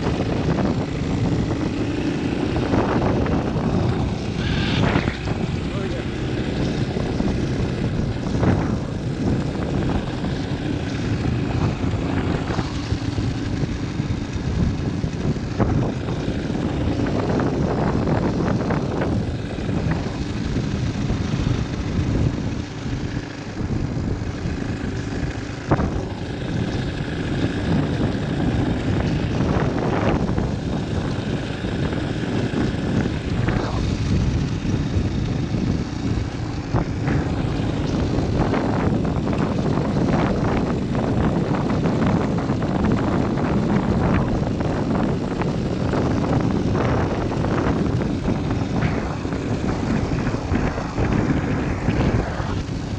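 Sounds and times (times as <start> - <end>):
motorcycle engine running: 0.0 - 52.9
wind noise on microphone: 0.0 - 52.9.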